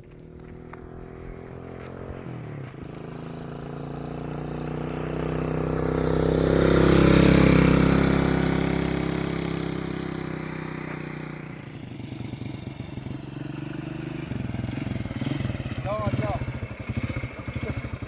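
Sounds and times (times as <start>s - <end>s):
vehicle engine passing by: 0.0s - 18.0s.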